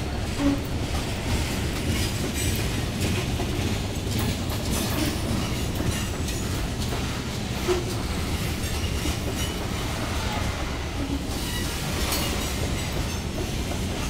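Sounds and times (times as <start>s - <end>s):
freight train wheels rumbling: 0.0s - 14.0s
wheels clacking over rail joints: 0.0s - 14.0s.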